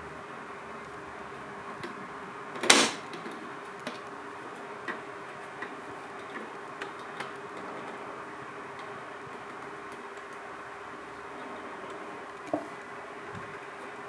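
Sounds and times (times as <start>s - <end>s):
steady faint hum: 0.0s - 14.0s.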